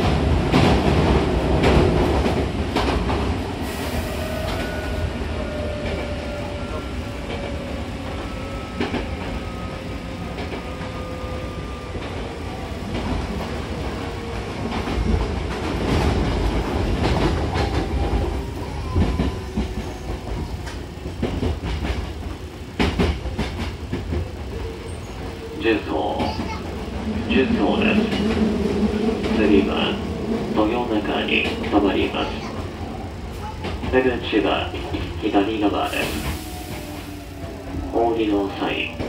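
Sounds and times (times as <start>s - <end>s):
clickety-clack of rail joints: 0.0s - 39.0s
train wheels rumbling on rails: 0.0s - 39.0s.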